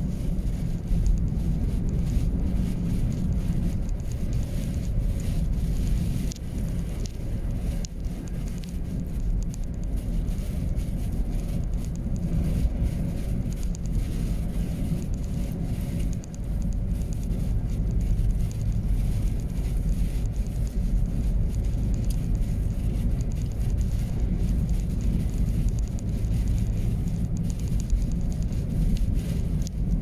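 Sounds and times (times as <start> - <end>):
vehicle road and engine noise: 0.0 - 30.0
wind noise: 0.0 - 30.0.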